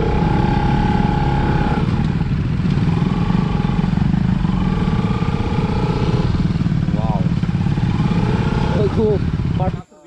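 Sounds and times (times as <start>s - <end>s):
motorcycle engines rumbling: 0.0s - 10.0s.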